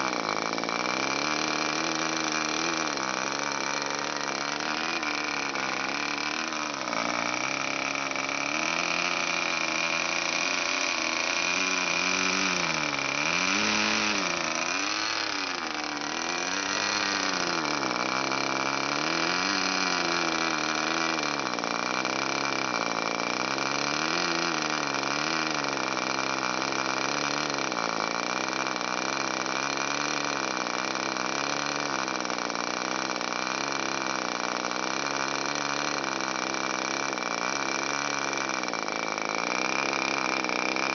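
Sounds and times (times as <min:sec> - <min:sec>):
model aircraft engine running: 0:00.0 - 0:40.9.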